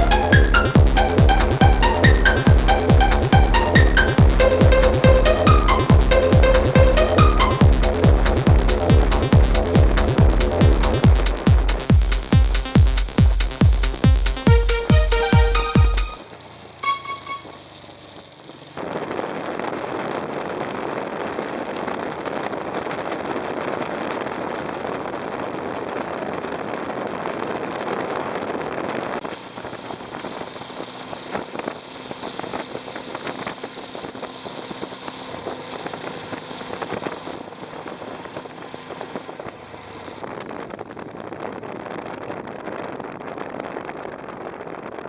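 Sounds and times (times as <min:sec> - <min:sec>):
motorcycle engine: 0:00.0 - 0:25.8, 0:29.0 - 0:44.5
wind and road noise: 0:00.0 - 0:45.0.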